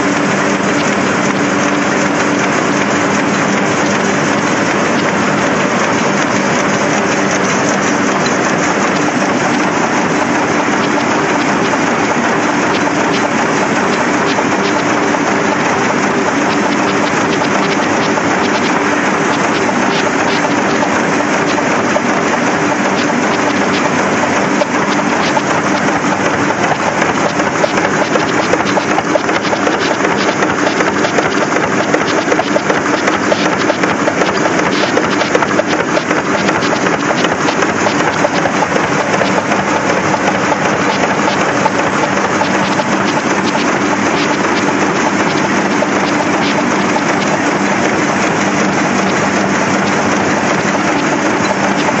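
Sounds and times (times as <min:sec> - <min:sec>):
printing press clattering: 0:00.0 - 0:52.0.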